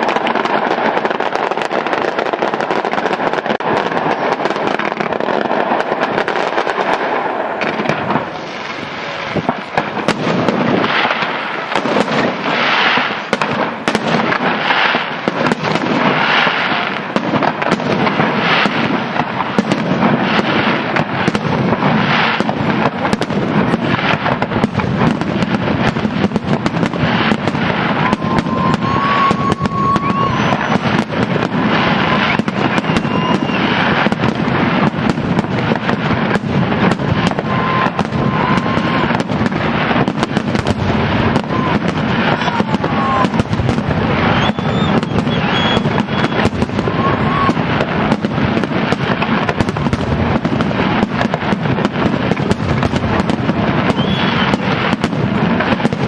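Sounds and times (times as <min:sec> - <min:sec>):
firework whistling tones: 0:00.0 - 0:56.0
fireworks crackling and bangs: 0:00.0 - 0:56.0.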